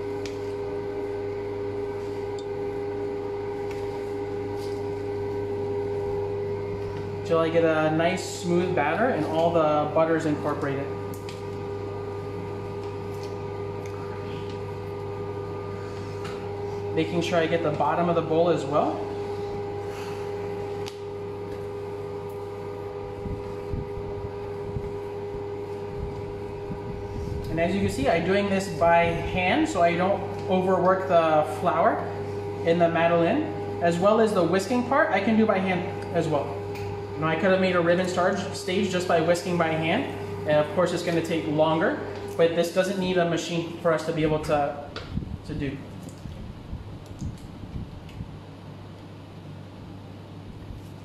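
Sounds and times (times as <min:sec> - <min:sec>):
machine hum with tones: 0:00.0 - 0:51.0.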